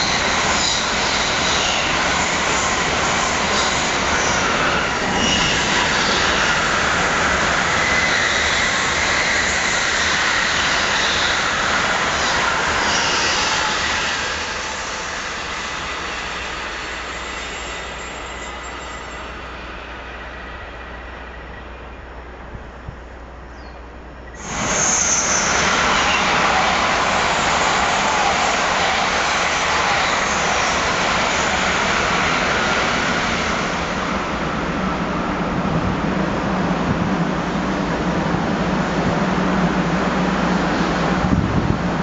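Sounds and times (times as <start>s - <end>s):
high-speed train rushing past: 0.0s - 42.0s.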